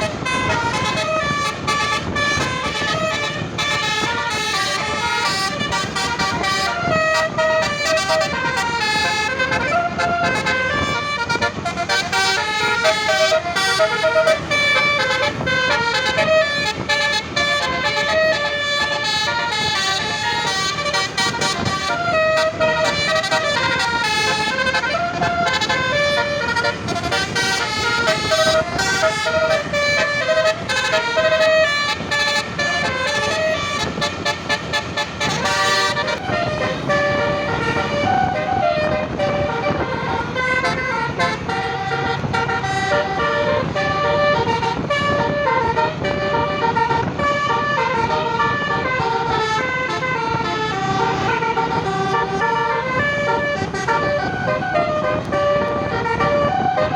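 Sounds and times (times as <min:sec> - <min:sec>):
multi-tone air horn playing a tune: 0:00.0 - 0:56.9
vehicle low rumble: 0:00.0 - 0:56.9.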